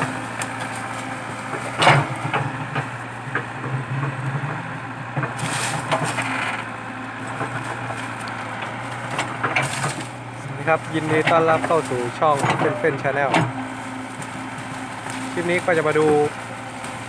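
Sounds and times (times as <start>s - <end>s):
excavator diesel engine running: 0.0s - 17.0s
wood cracking and splintering: 0.0s - 17.0s.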